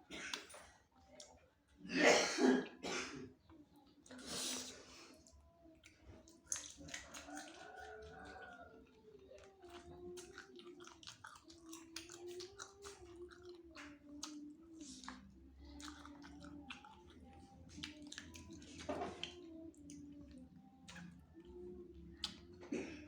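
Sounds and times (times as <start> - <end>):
close-miked chewing: 0.0 - 1.8, 3.4 - 23.0.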